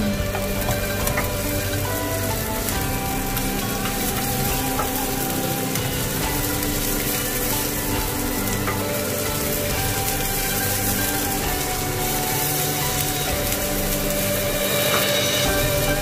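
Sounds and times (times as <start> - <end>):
onion sizzling in oil: 0.0 - 16.0
wooden spatula stirring: 0.0 - 16.0.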